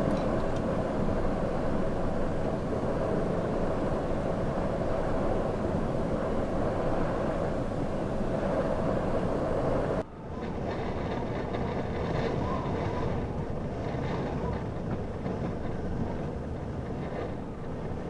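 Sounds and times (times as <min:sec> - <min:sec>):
vehicle rumbling: 0:00.0 - 0:18.0.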